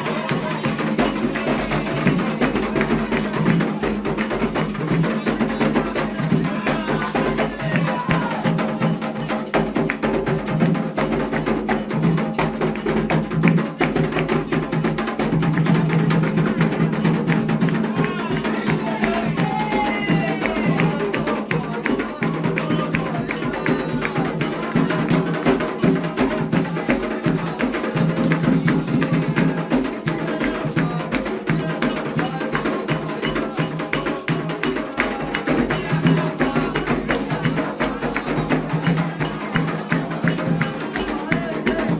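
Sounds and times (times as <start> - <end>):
clacking percussion: 0.0 - 41.9
continuous drumming: 0.0 - 41.9
voices singing: 0.0 - 41.9.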